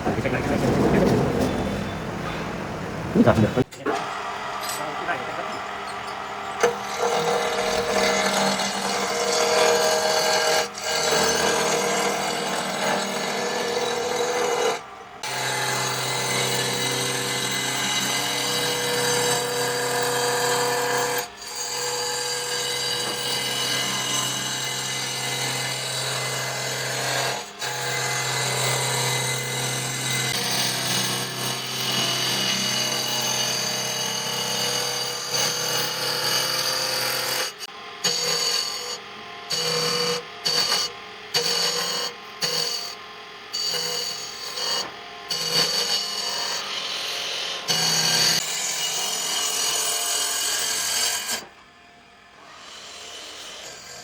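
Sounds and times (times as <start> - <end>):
electric power tool on wood: 3.9 - 43.0, 43.6 - 51.5.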